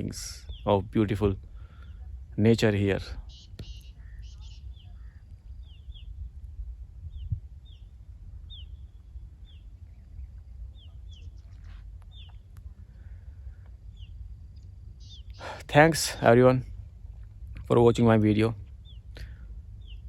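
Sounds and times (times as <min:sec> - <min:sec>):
small birds chirping: 0:00.0 - 0:20.0
wind rumble on microphone: 0:00.0 - 0:20.0.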